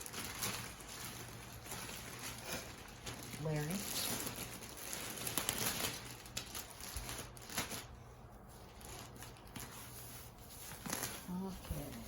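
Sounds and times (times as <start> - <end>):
wrapping rustling and crinkling: 0.0 - 12.0.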